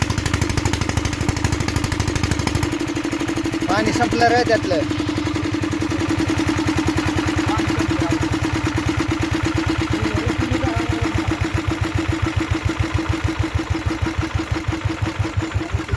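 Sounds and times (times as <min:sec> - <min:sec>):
diesel engine chugging: 0:00.0 - 0:15.9.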